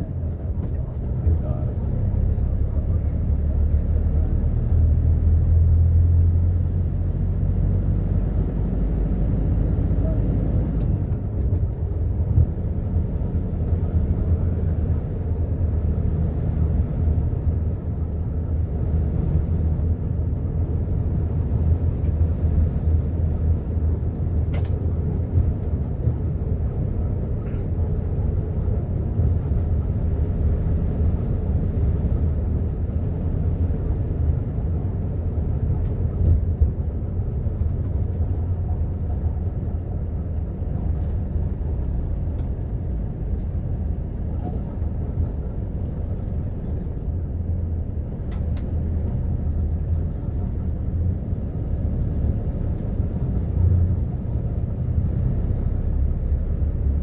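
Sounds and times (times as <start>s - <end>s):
low background rumble: 0.0s - 57.0s.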